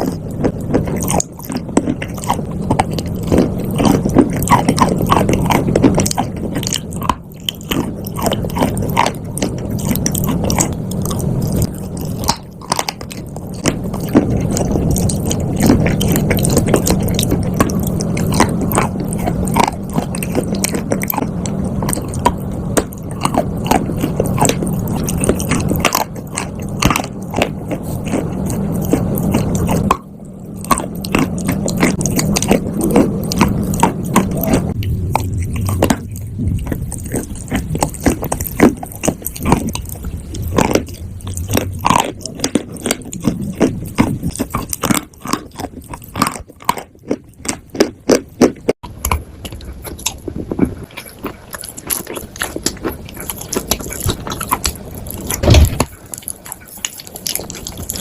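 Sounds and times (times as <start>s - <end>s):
person chewing with crunches: 0.0s - 58.0s.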